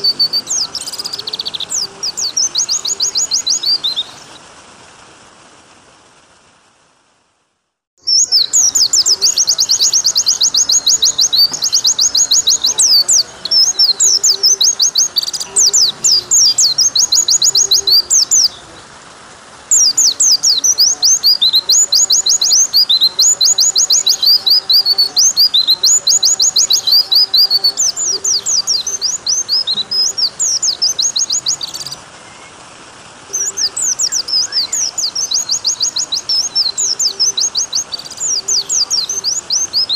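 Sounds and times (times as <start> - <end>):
bird high trilled song: 0.0 - 4.4, 8.0 - 18.8, 19.7 - 32.6, 33.3 - 39.9.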